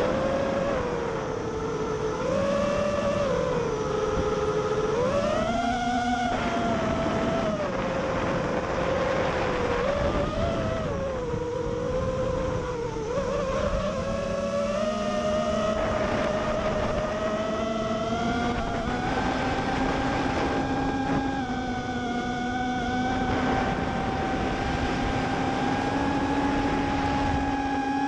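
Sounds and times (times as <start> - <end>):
drone motors whining: 0.0 - 28.0
wind rumbling on microphone: 0.0 - 28.0.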